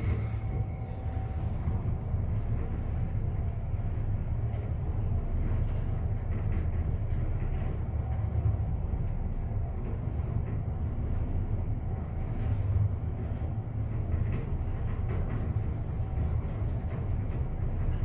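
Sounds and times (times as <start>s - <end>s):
elevator rumbling upward: 0.0s - 18.0s.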